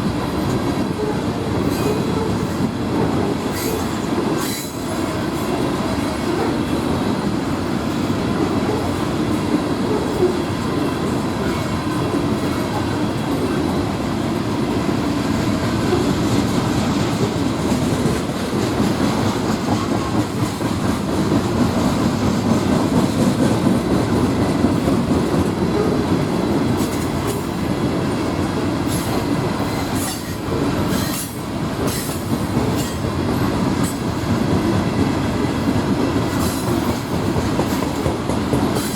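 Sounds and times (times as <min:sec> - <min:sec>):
freight train rolling past: 0:00.0 - 0:38.9
train clanks: 0:00.0 - 0:38.9.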